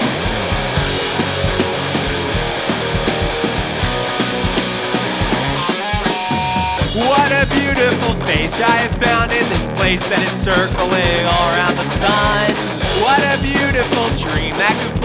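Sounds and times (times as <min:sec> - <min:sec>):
distorted electric guitars: 0:00.0 - 0:15.0
fast drum beat: 0:00.0 - 0:15.0.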